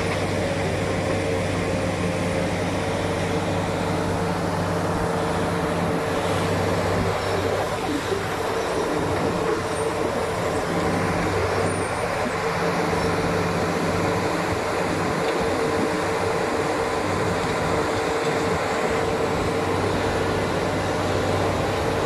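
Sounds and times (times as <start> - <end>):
excavator engines humming: 0.0 - 22.0
water-mist fan blowing: 0.0 - 22.0.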